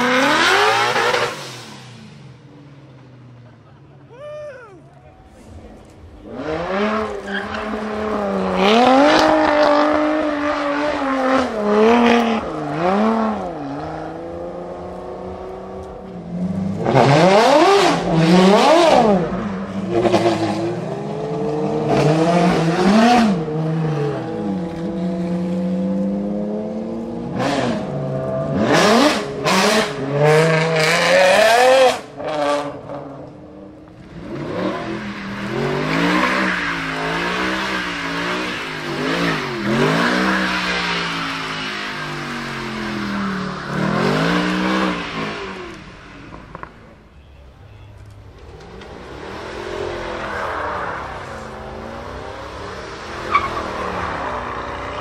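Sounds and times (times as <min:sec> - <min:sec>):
supercar engines revving: 0:00.0 - 0:47.0, 0:48.0 - 0:55.0.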